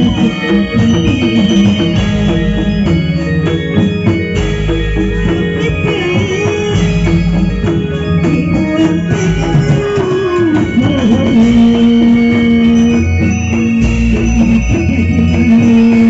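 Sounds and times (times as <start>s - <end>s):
drums and mallet percussion: 0.0s - 16.0s
sliding melody line: 0.0s - 16.0s.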